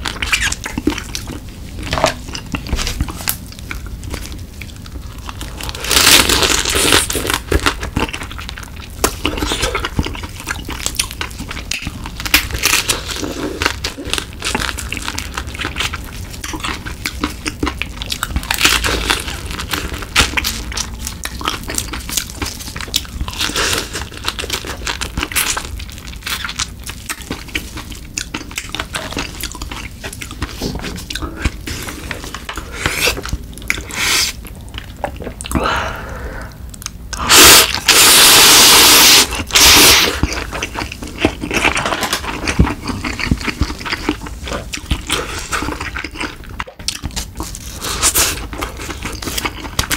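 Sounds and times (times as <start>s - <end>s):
chewing: 0.0s - 35.6s, 36.7s - 49.9s.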